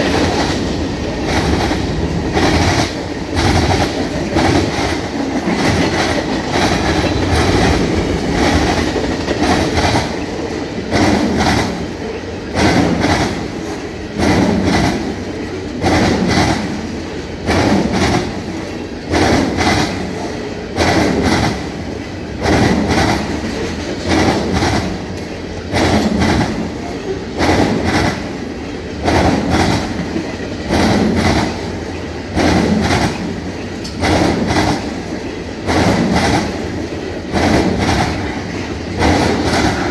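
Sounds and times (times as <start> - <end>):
train rolling rumble: 0.0 - 39.9
train wheels banging over joints: 0.0 - 39.9.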